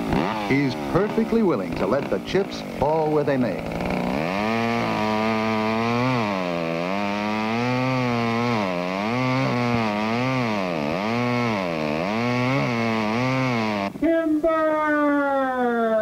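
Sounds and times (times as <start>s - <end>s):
chainsaw cutting into tree trunk: 0.0s - 14.0s.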